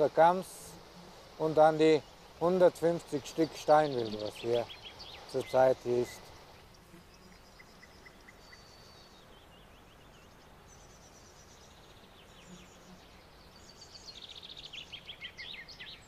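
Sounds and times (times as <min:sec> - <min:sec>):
faint background hiss: 0:00.0 - 0:16.0
small birds singing: 0:00.0 - 0:16.0.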